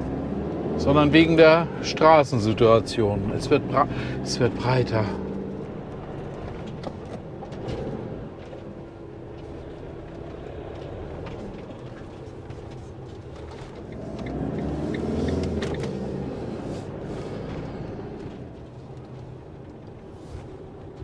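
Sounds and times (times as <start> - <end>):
road noise: 0.0 - 21.0
van engine running: 0.0 - 21.0.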